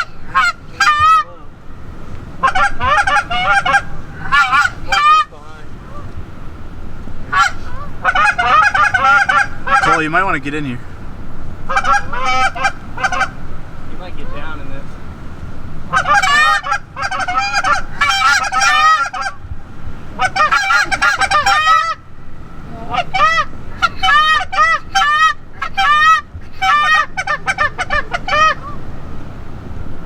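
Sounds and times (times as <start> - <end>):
goose honking: 0.0 - 1.4, 2.3 - 6.2, 7.0 - 14.7, 15.8 - 19.4, 20.0 - 29.2.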